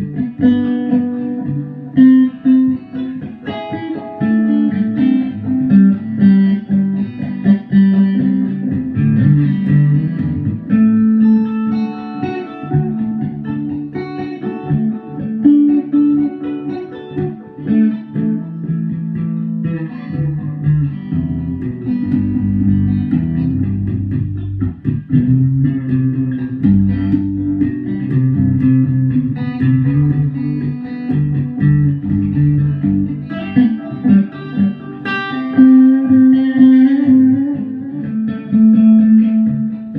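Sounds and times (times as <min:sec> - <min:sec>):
plucked guitar music: 0:00.0 - 0:39.9.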